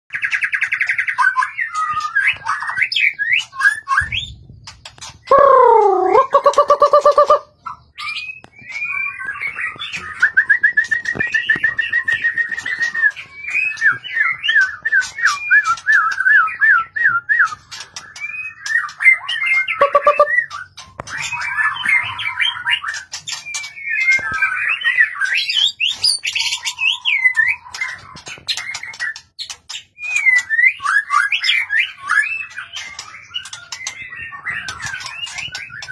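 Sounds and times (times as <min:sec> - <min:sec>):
fast even bird trill: 0:05.2 - 0:16.2, 0:17.5 - 0:35.9
bird singing whistled phrases: 0:05.3 - 0:29.1, 0:30.0 - 0:35.9.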